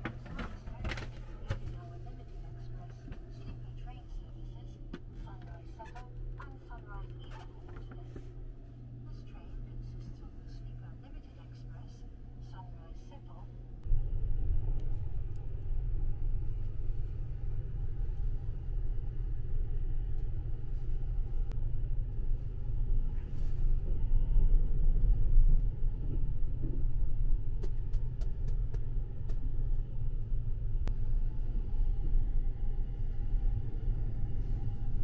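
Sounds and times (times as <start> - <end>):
train running low rumble: 0.0 - 35.0.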